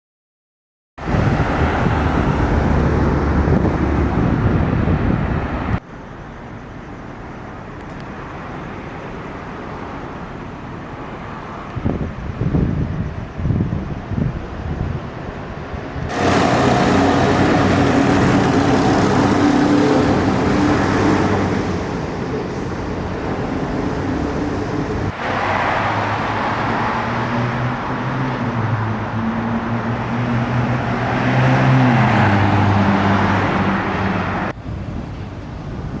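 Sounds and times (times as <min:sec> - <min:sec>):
car engines humming: 0:01.0 - 0:36.0
tyre and road noise: 0:01.0 - 0:36.0.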